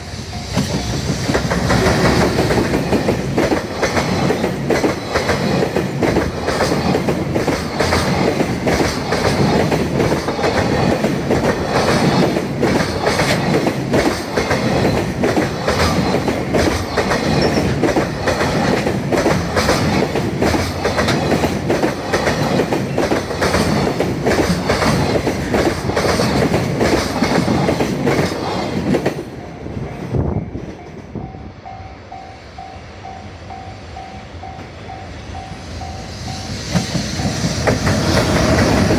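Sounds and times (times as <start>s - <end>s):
train wheels clattering: 0.0s - 29.4s, 34.4s - 38.9s.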